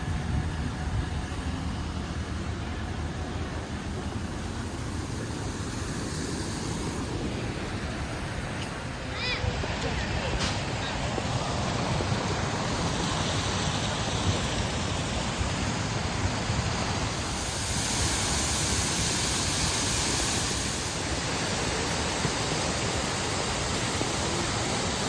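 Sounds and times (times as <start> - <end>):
waterfall rushing hiss: 3.0 - 25.0.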